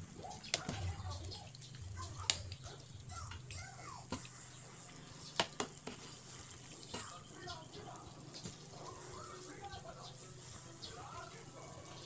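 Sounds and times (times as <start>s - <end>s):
ladle stirring soup: 0.0s - 12.0s.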